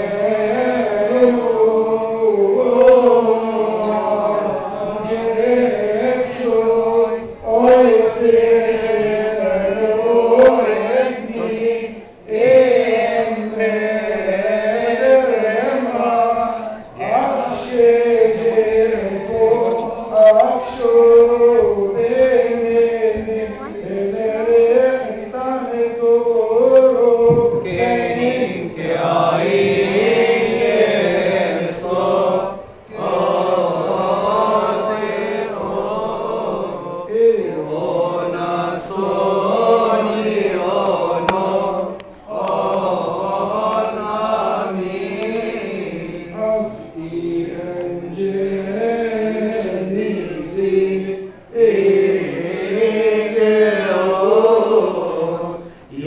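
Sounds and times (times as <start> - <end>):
group of voices chanting a hymn: 0.0 - 56.0.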